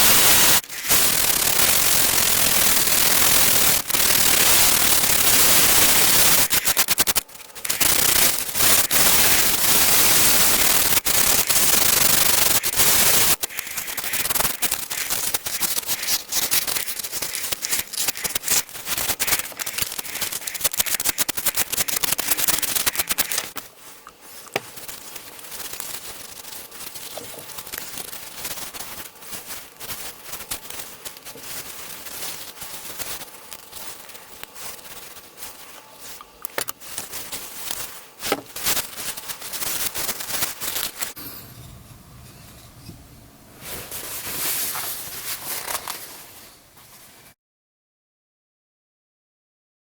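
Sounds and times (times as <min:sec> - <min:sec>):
crackling with sharp clicks: 0:00.0 - 0:41.2.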